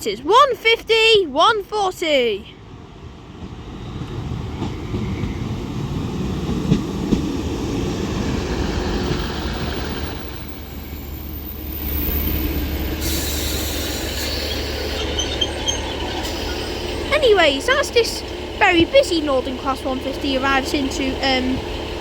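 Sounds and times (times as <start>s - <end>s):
wheel and rail rumble: 0.2s - 22.0s.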